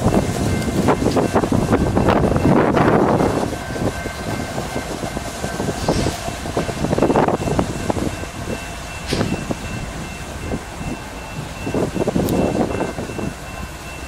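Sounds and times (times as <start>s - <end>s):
train engine and wheel rumble: 0.0s - 14.0s.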